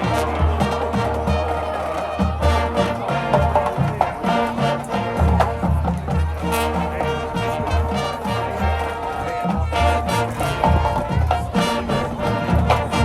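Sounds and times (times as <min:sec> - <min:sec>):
brass chords: 0:00.0 - 0:13.0.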